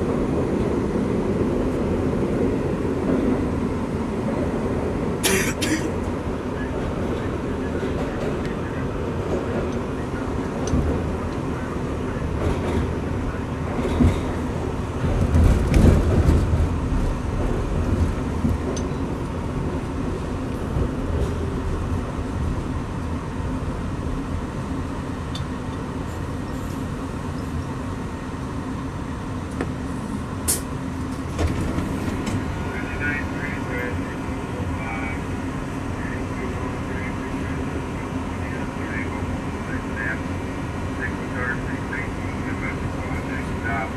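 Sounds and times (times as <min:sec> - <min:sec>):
subway wheels rumbling on rail: 0:00.0 - 0:43.9.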